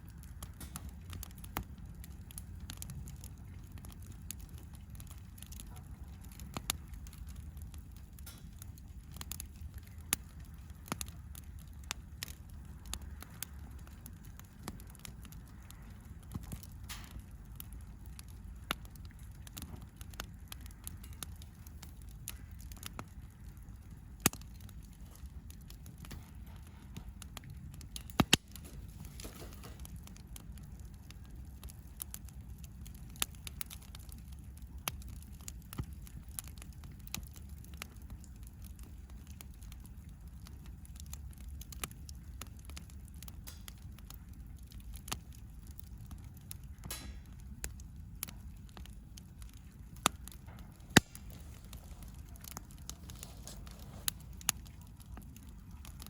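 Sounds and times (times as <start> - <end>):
campfire crackling: 0.0 - 56.0
fire pops: 0.0 - 56.0.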